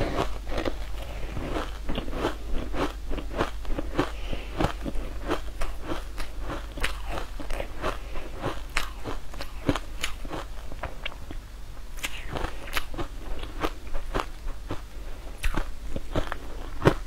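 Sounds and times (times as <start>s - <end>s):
crunchy food chewing: 0.0s - 11.4s, 12.0s - 17.0s.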